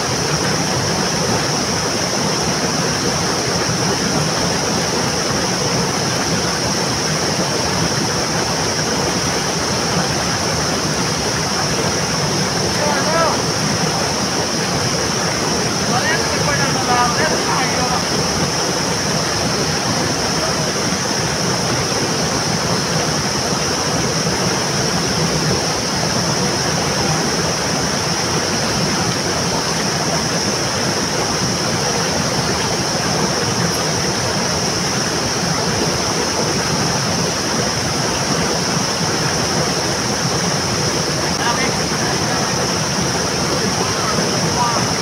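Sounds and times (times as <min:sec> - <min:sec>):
rushing river water: 0:00.0 - 0:45.0.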